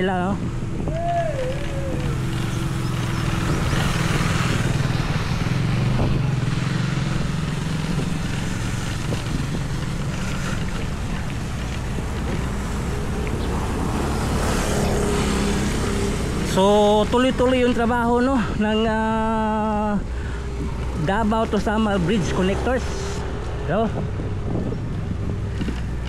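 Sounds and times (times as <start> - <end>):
low engine hum: 0.0 - 26.0
noisy wash: 0.0 - 26.0.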